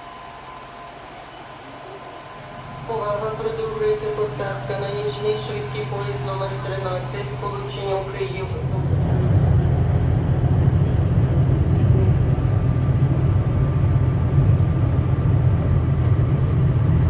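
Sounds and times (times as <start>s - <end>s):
steady low rumble: 1.6s - 17.0s.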